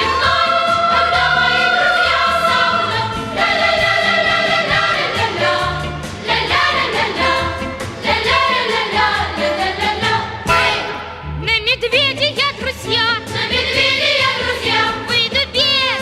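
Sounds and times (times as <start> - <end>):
choir singing held notes: 0.0 - 11.2, 13.3 - 15.0
instrumental accompaniment with bass: 0.0 - 16.0.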